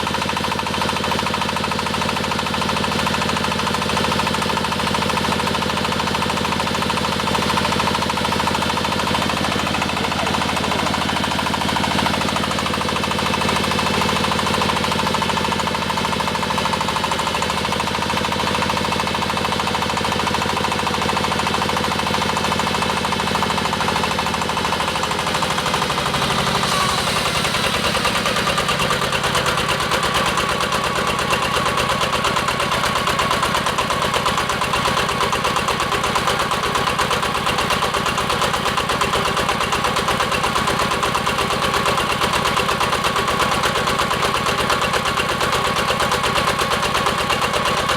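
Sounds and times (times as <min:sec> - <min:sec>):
diesel engine knocking: 0:00.0 - 0:47.9.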